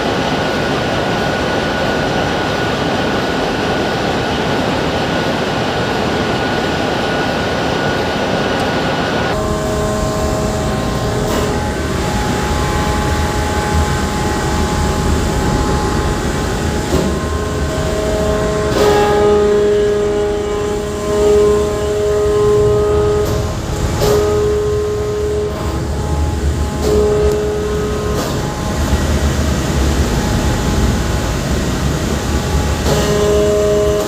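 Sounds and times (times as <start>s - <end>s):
machine engine running: 0.0s - 34.0s
whining tones: 5.8s - 34.0s.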